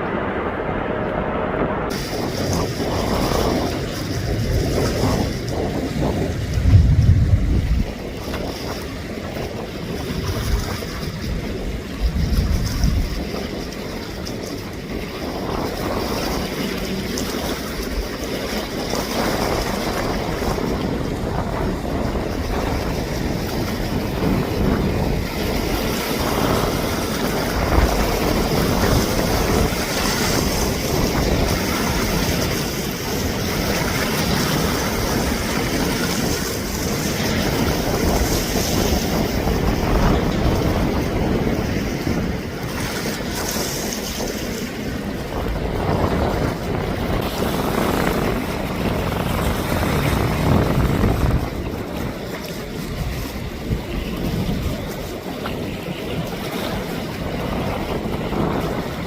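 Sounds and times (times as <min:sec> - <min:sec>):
jet engines rushing: 0:00.0 - 0:59.0
wind buffeting microphone: 0:00.0 - 0:59.0.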